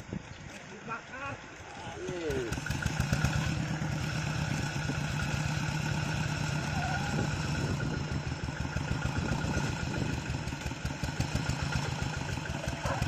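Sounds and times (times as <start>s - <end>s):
diesel engine chugging: 1.2s - 13.0s.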